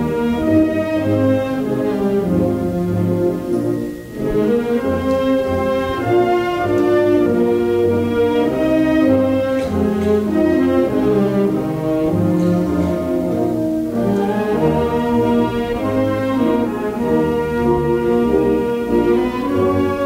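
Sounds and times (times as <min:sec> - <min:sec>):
brass and woodwind band playing: 0:00.0 - 0:20.0.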